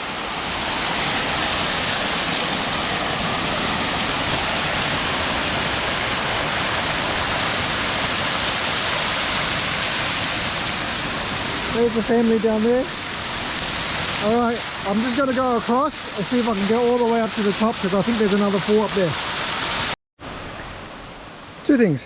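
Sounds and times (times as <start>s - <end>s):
waterfall pouring: 0.0s - 20.0s.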